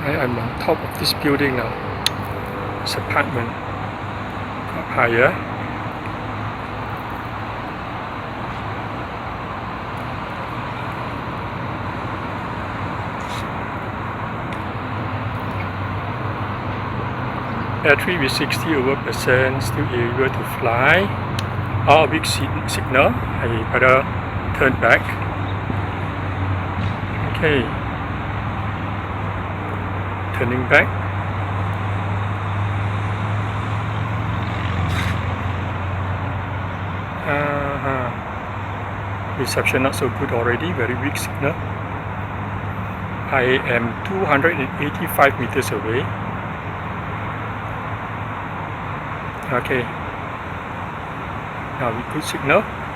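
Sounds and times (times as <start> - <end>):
road traffic hum: 0.0 - 52.9
wind: 0.0 - 52.9.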